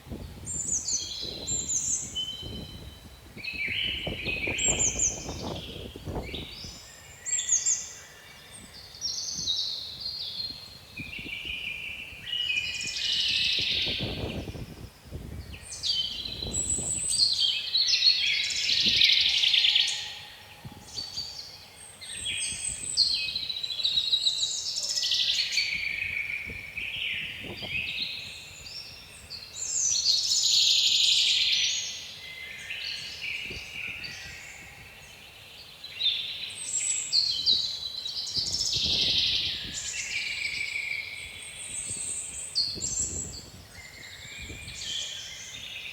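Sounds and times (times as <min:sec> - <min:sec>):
wind rumbling on microphone: 0:00.0 - 0:07.4, 0:08.5 - 0:19.6, 0:20.5 - 0:24.1, 0:25.5 - 0:30.2, 0:32.9 - 0:35.1, 0:37.2 - 0:45.8
songbirds singing: 0:00.0 - 0:45.9.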